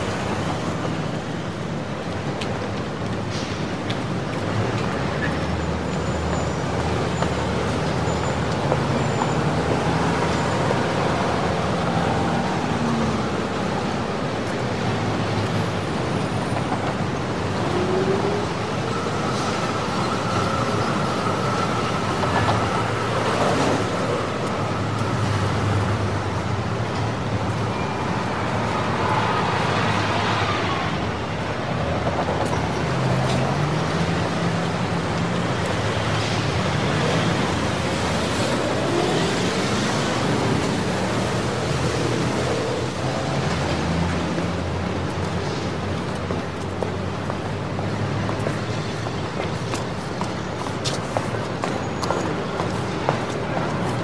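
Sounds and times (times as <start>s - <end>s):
car and bus engines: 0.0s - 54.0s.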